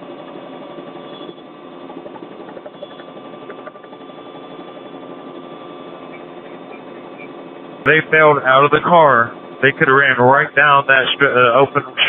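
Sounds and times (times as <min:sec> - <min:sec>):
helicopter engine and rotor: 0:00.0 - 0:12.0
thin constant whine: 0:00.0 - 0:12.0.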